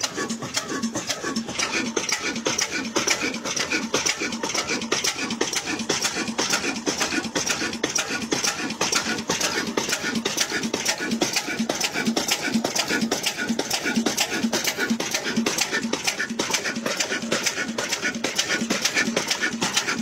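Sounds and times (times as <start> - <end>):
diesel engine chuffing: 0.0 - 20.0.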